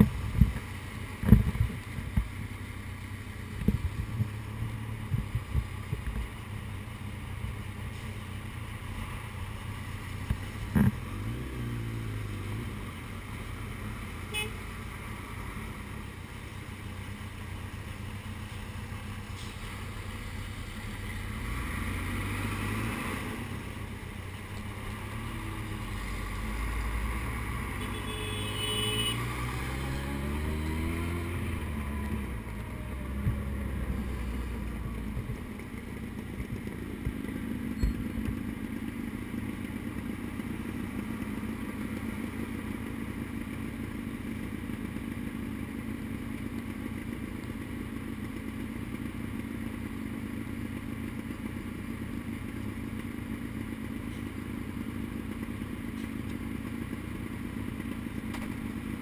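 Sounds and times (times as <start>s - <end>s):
motorcycle engine revving and idling: 0.0s - 59.0s.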